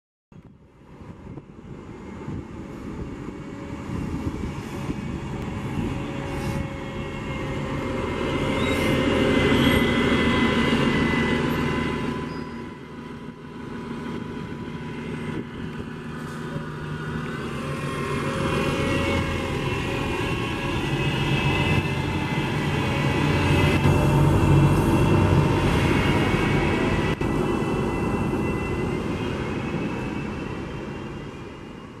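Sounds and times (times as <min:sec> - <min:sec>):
bus engine drone: 0:00.4 - 0:32.0
whine shifting in pitch: 0:00.5 - 0:32.0.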